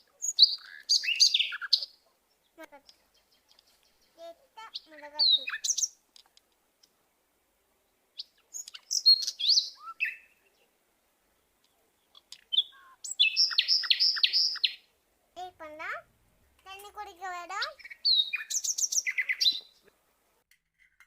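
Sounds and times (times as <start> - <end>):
small bird chirping: 0.0 - 6.9, 7.8 - 14.9, 16.7 - 20.0.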